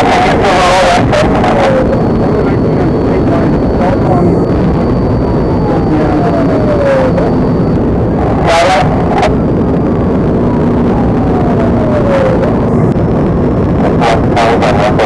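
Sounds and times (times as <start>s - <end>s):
car engine and road noise: 0.0s - 14.4s
police siren wailing: 0.0s - 14.8s.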